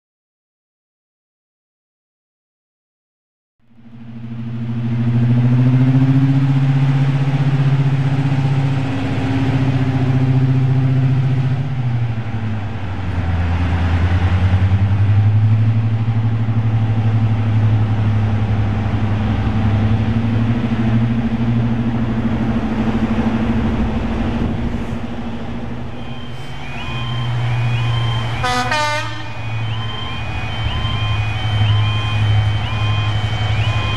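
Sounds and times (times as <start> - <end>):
diesel locomotive engine running: 3.6 - 33.9.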